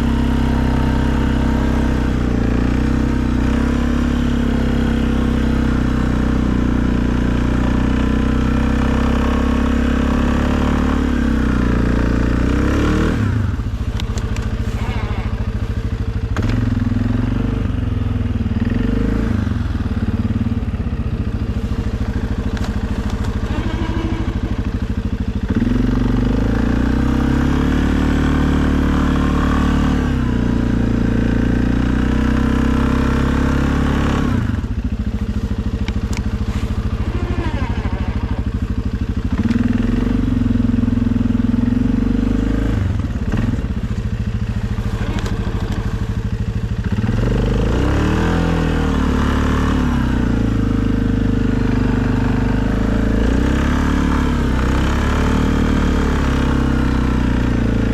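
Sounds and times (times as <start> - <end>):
atv engine revving under load: 0.0 - 57.9.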